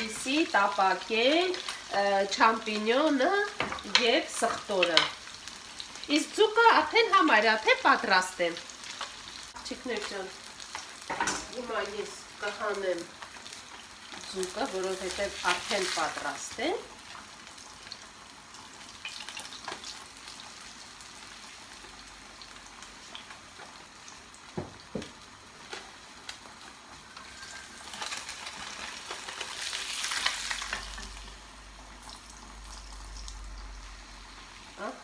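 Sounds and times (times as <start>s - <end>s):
fish sizzling in frying oil: 0.0s - 35.0s.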